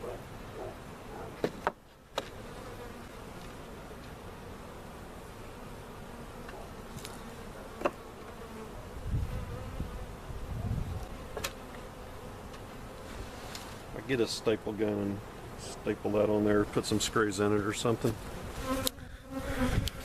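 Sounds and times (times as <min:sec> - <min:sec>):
honey bees buzzing: 0:00.0 - 0:20.0.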